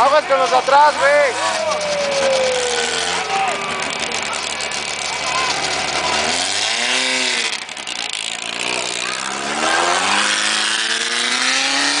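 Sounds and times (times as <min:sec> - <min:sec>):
car engine accelerating: 0:00.0 - 0:12.0
road and wind noise: 0:00.0 - 0:12.0.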